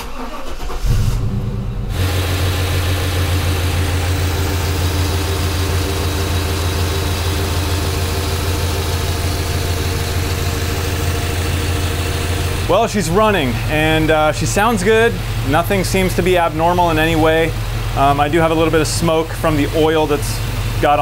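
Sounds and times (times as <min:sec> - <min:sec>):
car engine starting and idling: 0:00.0 - 0:21.0.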